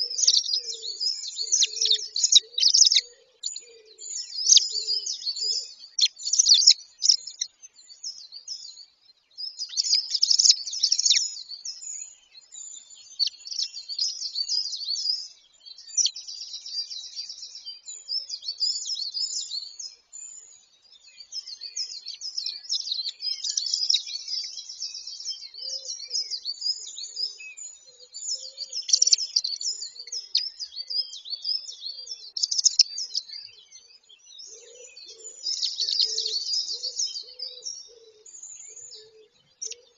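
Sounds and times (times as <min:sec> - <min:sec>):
faint low bird calls: 0:00.0 - 0:39.9
small birds chirping chorus: 0:00.0 - 0:39.9.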